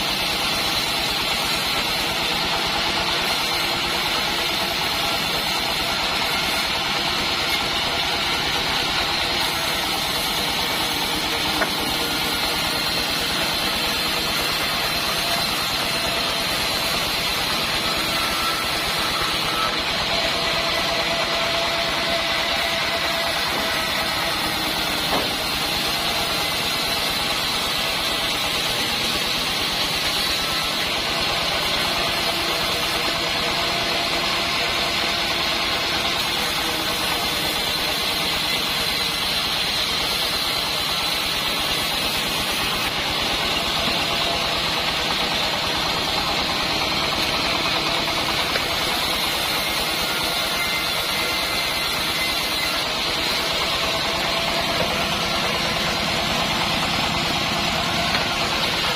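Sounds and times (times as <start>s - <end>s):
band sawmill running: 0.0s - 58.9s.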